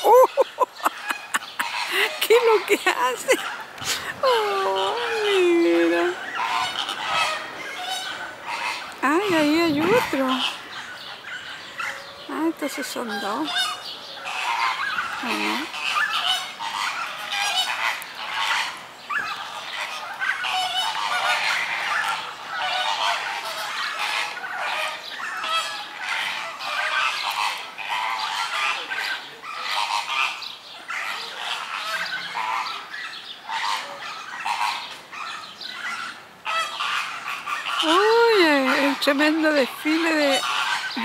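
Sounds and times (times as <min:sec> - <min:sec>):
flamingos honking: 0:00.0 - 0:41.0.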